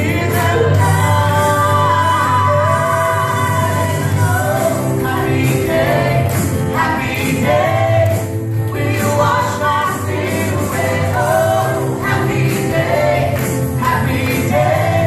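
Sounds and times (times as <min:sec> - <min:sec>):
bass guitar: 0:00.0 - 0:15.0
group of singers: 0:00.0 - 0:15.0
keyboard: 0:00.0 - 0:15.0.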